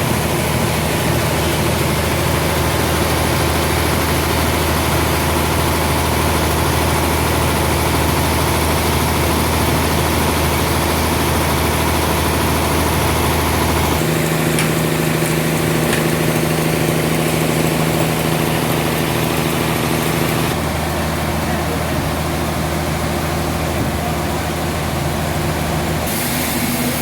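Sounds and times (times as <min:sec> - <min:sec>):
machinery engine humming: 0:00.0 - 0:27.0.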